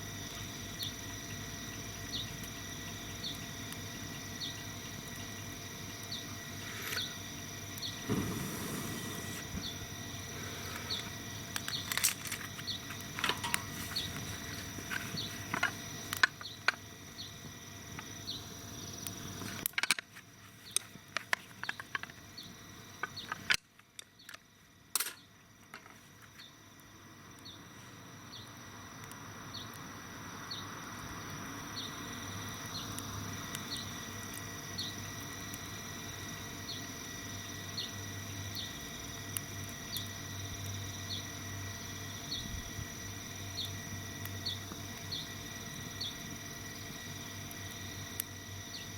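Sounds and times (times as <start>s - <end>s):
insect chirping: 0.0s - 48.9s
insects buzzing: 0.0s - 48.9s.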